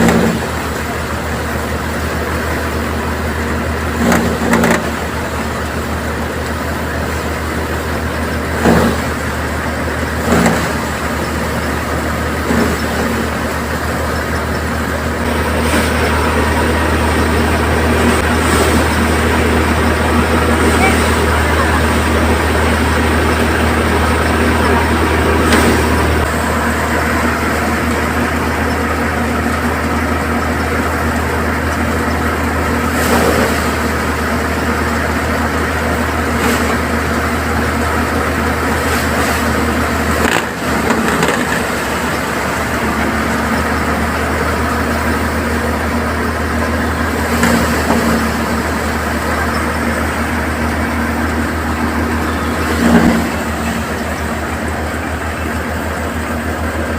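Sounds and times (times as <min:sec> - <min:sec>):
tractor engine drone: 0:00.0 - 0:56.9.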